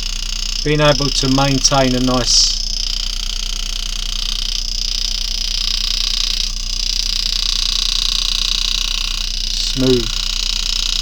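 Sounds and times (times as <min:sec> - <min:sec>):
engraving handpiece buzzing: 0:00.0 - 0:11.0.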